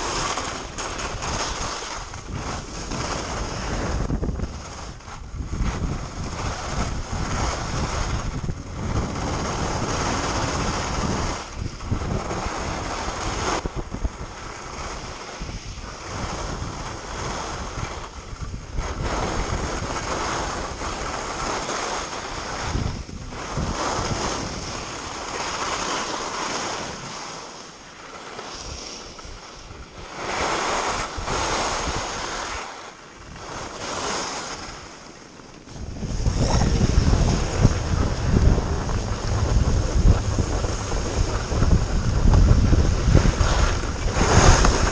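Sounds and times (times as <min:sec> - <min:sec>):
skis scraping on snow: 0:00.0 - 0:44.9
wind rushing over microphone: 0:00.0 - 0:44.9.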